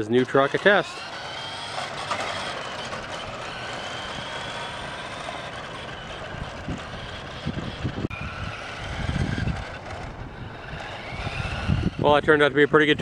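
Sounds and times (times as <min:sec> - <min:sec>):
toy electric motor whine: 0:00.0 - 0:13.0.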